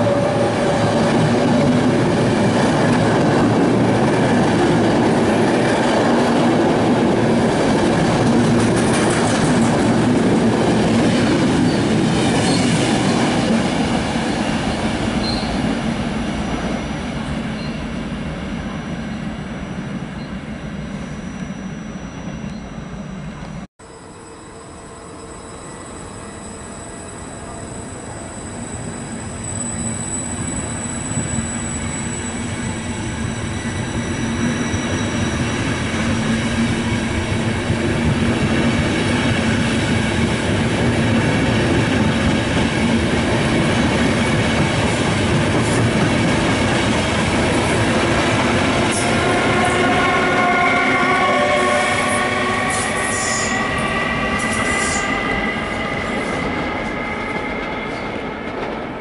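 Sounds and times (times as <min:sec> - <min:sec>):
train wheels rumbling and clattering: 0:00.0 - 0:18.8, 0:29.5 - 0:59.0
electric locomotive whine: 0:00.0 - 0:59.0.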